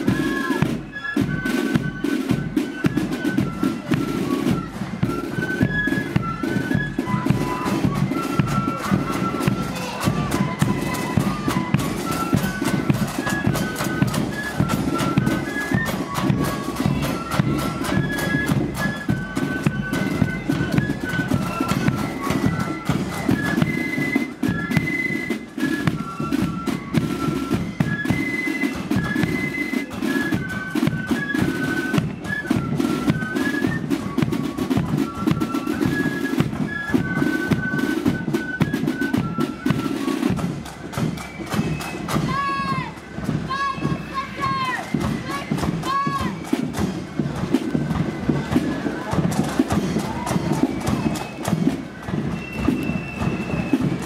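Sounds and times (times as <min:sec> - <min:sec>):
flutes playing melody: 0:00.0 - 0:54.0
snare drums: 0:00.0 - 0:54.0.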